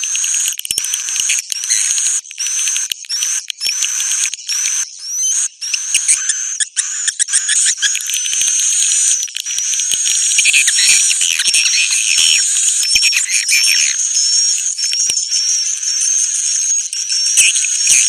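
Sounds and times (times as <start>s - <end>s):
songbird chattering and whistling: 3.1s - 18.0s.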